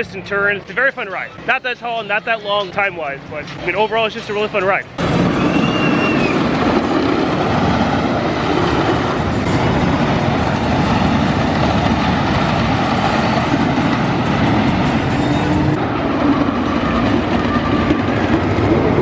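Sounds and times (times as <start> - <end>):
roller coaster wheels on track: 0.0 - 19.0.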